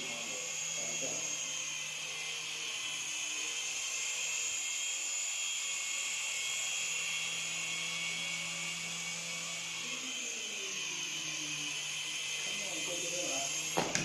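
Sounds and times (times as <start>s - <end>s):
toy airplane propellers whirring: 0.0s - 14.0s.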